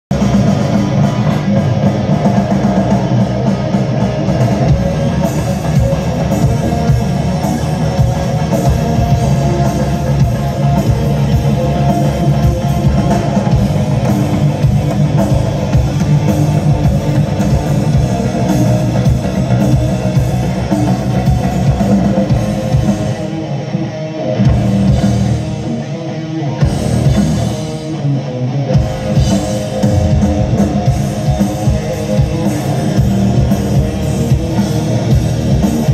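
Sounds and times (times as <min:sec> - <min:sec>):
live hard rock band: 0:00.1 - 0:35.9.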